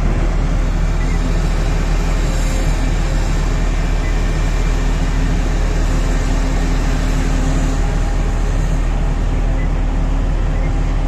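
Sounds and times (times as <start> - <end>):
heavy diesel machinery drone: 0.0 - 11.0.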